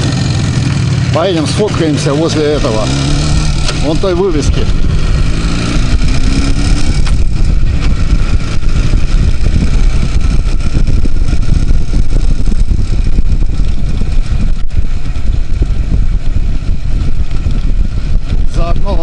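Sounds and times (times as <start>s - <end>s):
two-stroke motorcycle engine running: 0.0s - 19.0s
wind rumble on microphone: 1.2s - 19.0s.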